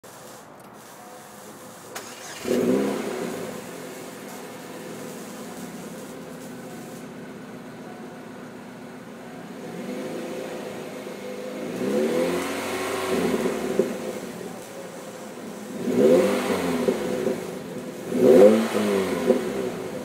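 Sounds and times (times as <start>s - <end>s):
car engine idling: 0.0s - 20.0s
car engine revving: 1.9s - 20.0s.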